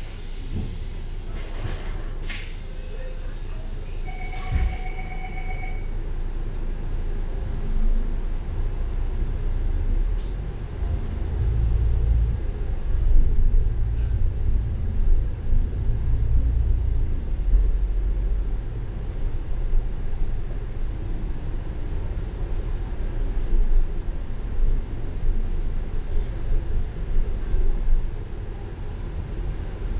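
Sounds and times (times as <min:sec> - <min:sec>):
bus engine rumble: 0:00.0 - 0:29.9.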